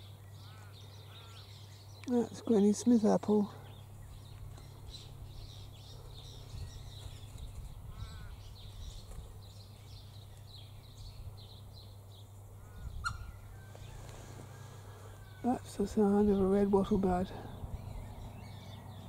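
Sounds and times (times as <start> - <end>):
bird calling: 0.0 - 19.0.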